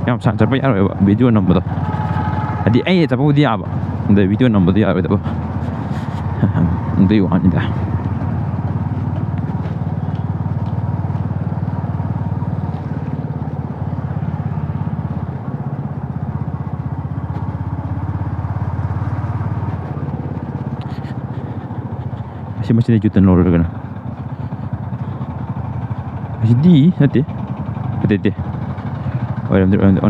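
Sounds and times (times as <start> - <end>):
motorcycle engine running: 0.0 - 30.0
road and wind noise: 0.0 - 30.0.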